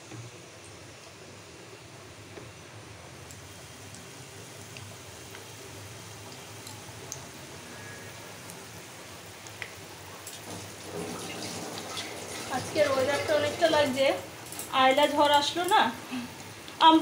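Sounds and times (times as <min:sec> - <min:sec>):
deep-frying sizzle with pops: 0:00.0 - 0:17.0.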